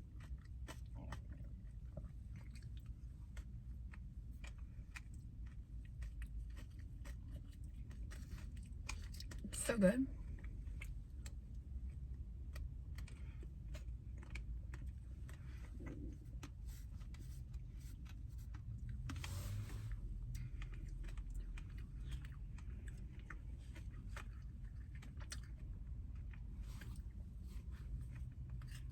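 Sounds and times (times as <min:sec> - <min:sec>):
chewing mouth clicks and smacks: 0:00.0 - 0:09.5, 0:10.2 - 0:28.9.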